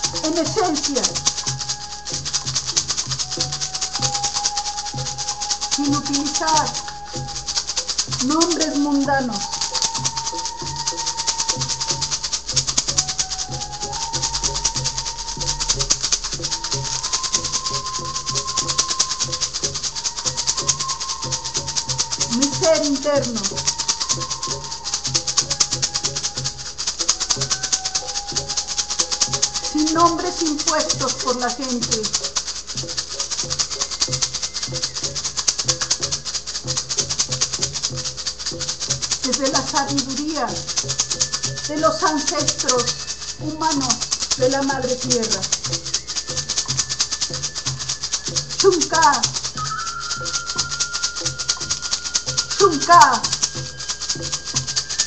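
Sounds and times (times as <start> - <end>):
thin held tone: 0.0 - 37.4, 39.3 - 55.0
soft low beat: 0.0 - 49.6
hand rattle shaken fast: 0.0 - 55.0.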